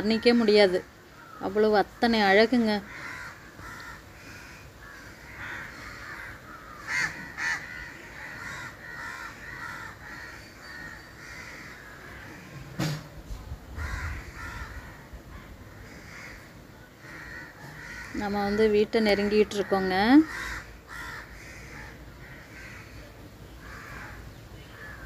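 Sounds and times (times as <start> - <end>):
crows cawing: 0.0 - 12.8, 13.7 - 25.0.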